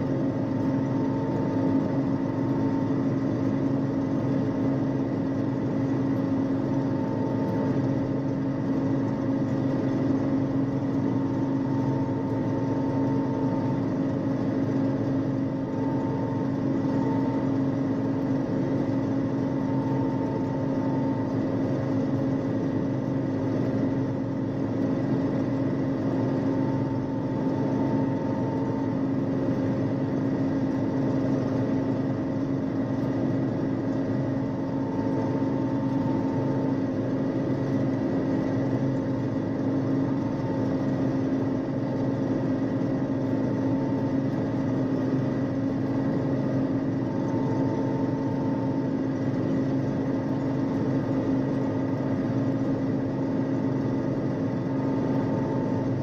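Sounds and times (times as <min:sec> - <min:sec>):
combine harvester drone: 0:00.0 - 0:56.0.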